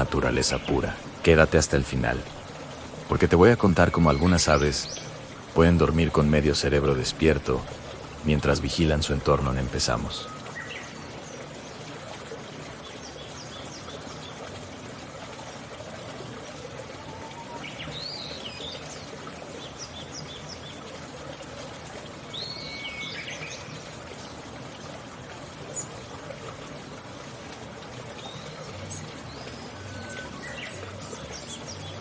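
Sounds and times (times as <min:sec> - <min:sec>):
rushing water background: 0:00.0 - 0:32.0
wild birds chirping: 0:00.0 - 0:32.0.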